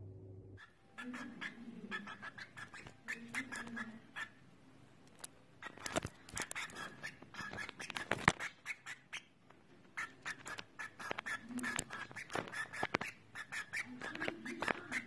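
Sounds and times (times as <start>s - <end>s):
small bird chirping and squawking: 0.6s - 4.5s, 5.6s - 15.0s.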